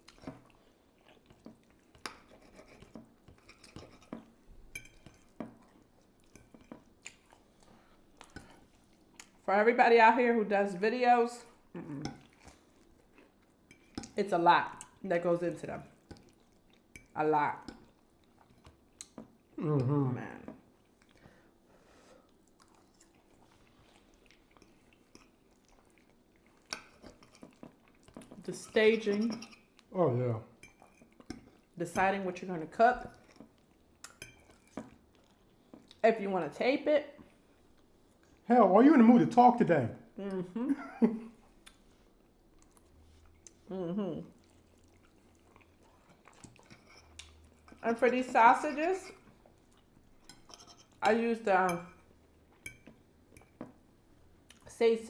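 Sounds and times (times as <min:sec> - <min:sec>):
faint chewing: 0:00.0 - 0:09.5, 0:11.5 - 0:15.0, 0:15.8 - 0:29.9, 0:30.6 - 0:32.2, 0:33.0 - 0:36.0, 0:37.1 - 0:38.5, 0:41.2 - 0:51.1, 0:51.8 - 0:54.8.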